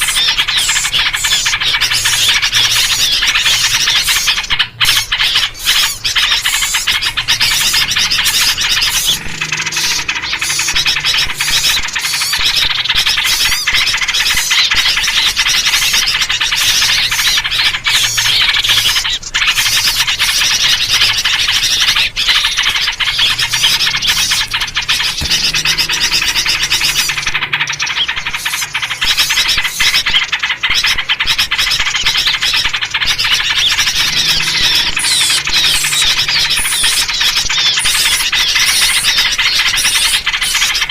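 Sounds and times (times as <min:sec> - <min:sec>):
small birds chattering: 0:00.0 - 0:40.9.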